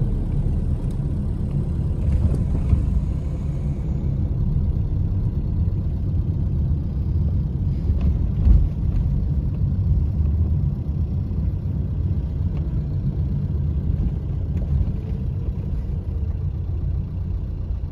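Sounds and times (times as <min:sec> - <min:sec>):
car engine and road noise: 0:00.0 - 0:17.9.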